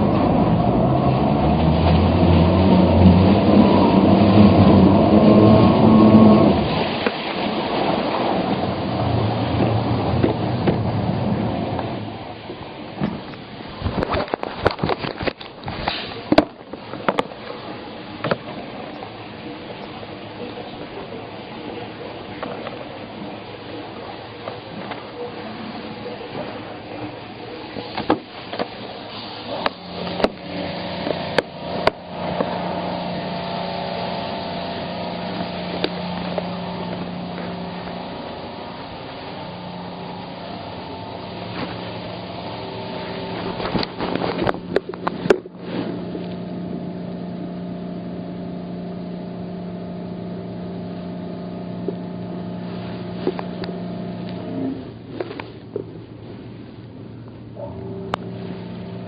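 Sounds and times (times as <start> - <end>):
outboard engine running: 0.0 - 59.0.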